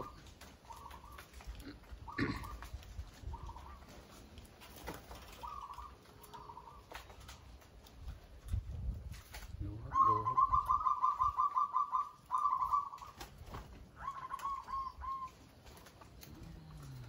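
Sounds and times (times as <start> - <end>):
dove cooing: 0.0 - 7.6, 9.8 - 17.0.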